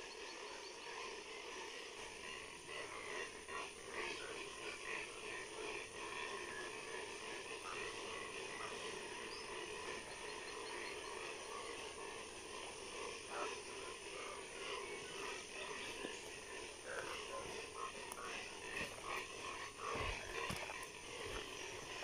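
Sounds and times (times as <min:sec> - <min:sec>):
chorus of animals calling: 0:00.0 - 0:22.0.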